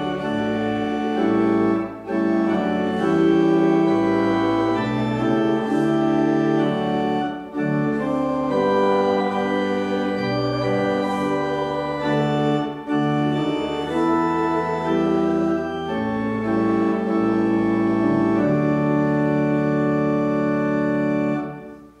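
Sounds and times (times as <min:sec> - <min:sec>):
church organ playing a hymn: 0:00.0 - 0:22.0.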